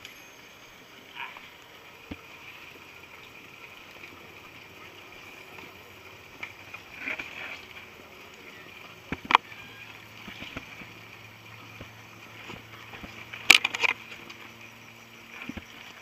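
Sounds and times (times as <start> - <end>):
steady high-pitched drone: 0.0 - 16.0
bikes knocking and rattling: 1.3 - 16.0.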